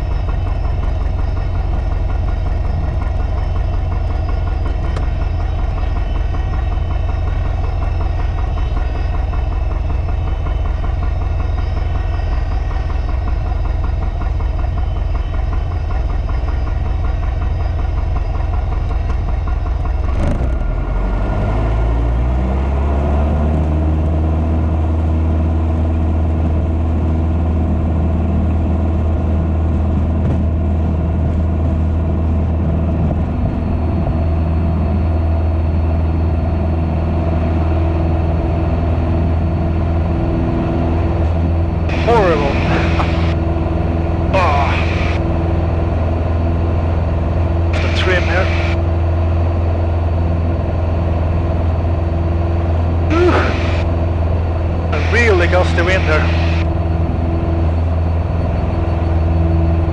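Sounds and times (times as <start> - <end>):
plane piston engine and propeller: 0.0 - 24.2, 32.9 - 59.9.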